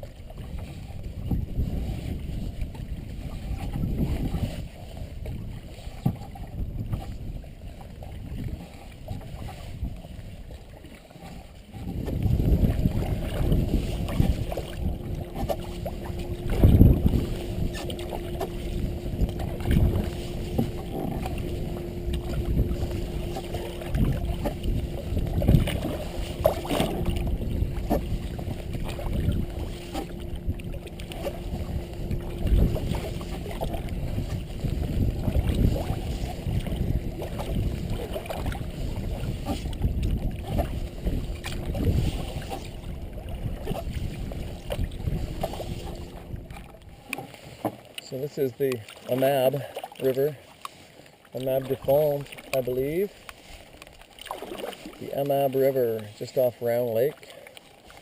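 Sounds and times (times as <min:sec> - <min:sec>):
low uneven rumble: 0:00.0 - 0:50.4
paddle and water splashing: 0:00.0 - 0:58.0.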